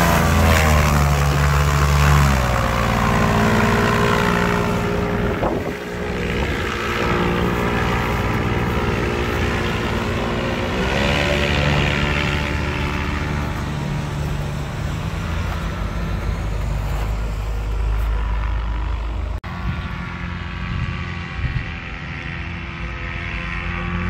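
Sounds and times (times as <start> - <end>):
airboat engine and propeller: 0.0 - 24.0.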